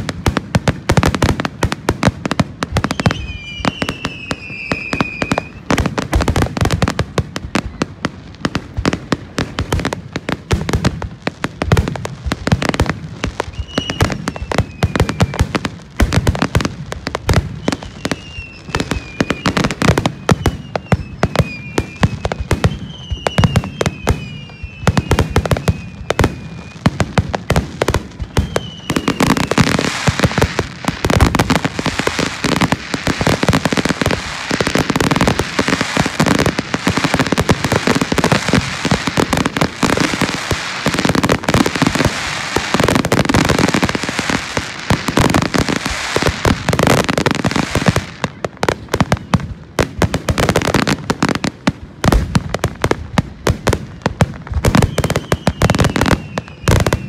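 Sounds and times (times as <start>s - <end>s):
fireworks cracks and bangs: 0.0s - 57.0s
fireworks whistles: 2.6s - 7.9s, 11.7s - 16.5s, 17.2s - 49.5s, 53.5s - 57.0s.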